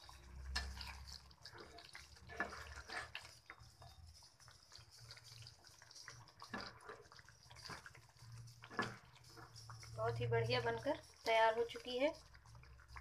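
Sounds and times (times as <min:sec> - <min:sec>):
curry bubbling: 0:00.0 - 0:13.0
spoon stirring: 0:00.0 - 0:13.0.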